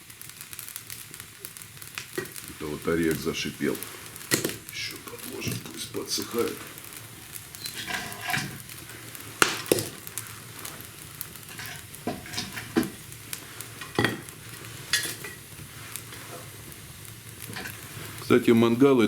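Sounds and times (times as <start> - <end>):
damp wood sizzling: 0.0 - 19.0
wood fire crackling and popping: 0.0 - 19.0.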